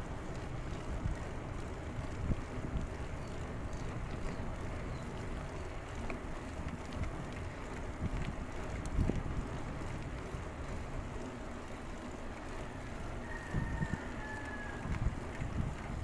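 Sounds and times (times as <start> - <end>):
wind buffeting microphone: 0.0 - 10.9, 12.9 - 16.0.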